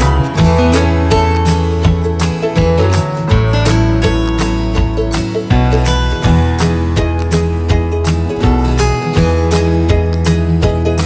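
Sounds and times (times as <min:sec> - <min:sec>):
acoustic guitar strumming: 0:00.0 - 0:11.0
bass line: 0:00.0 - 0:11.0.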